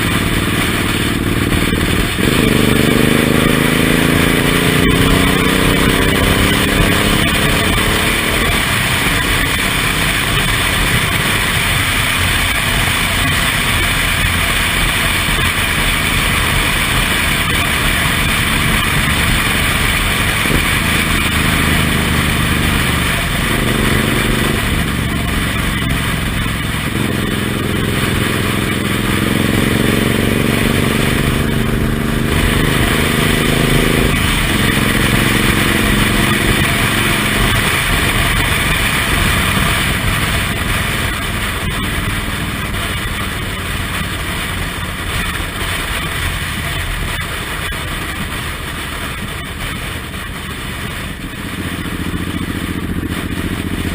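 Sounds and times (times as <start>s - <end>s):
motorcycle engine revving: 0.0s - 53.9s
wind rush on microphone: 0.0s - 53.9s.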